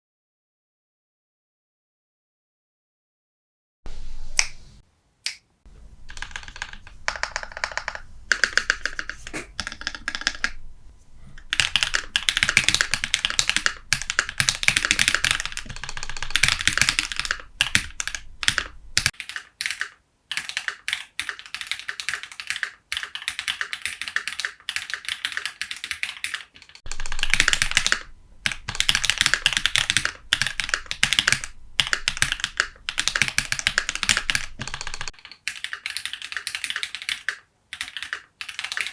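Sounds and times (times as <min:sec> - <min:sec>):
mechanical keyboard typing: 0:06.0 - 0:10.8, 0:11.4 - 0:38.9.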